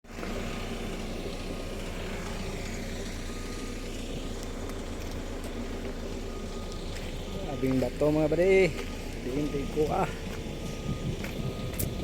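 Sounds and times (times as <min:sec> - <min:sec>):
excavator engine humming: 0:00.0 - 0:12.0.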